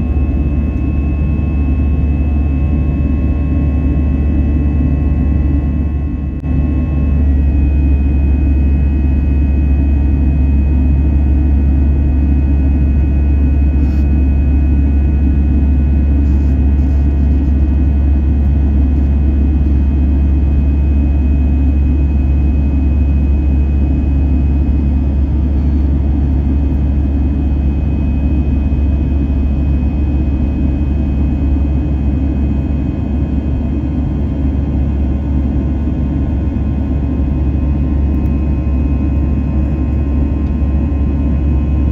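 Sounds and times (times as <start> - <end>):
faint steady whines: 0.0 - 41.9
jet engine and airflow rumble: 0.0 - 41.9.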